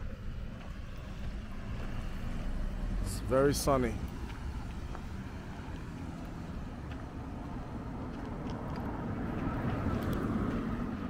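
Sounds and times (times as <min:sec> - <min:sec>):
passing cars hum: 0:00.0 - 0:11.0.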